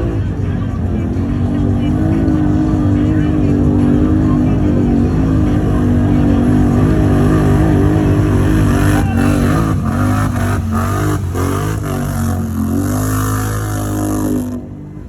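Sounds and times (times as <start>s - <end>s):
engine revving hard: 1.0s - 15.0s.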